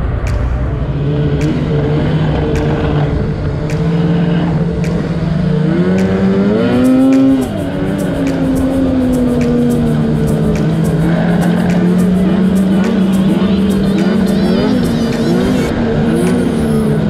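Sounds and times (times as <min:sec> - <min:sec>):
snowmobile engine revving: 0:00.8 - 0:17.0.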